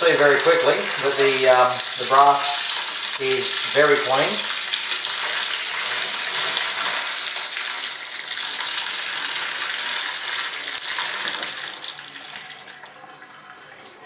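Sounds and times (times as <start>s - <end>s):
tap water running into sink: 0.0s - 13.4s.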